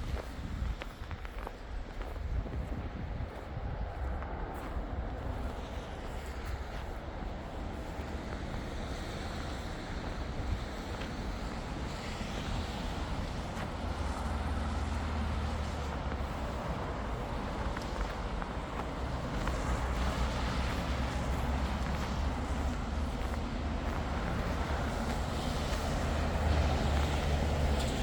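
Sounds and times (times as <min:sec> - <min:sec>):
street traffic: 0:00.0 - 0:28.0
wind rumbling on microphone: 0:00.0 - 0:28.0.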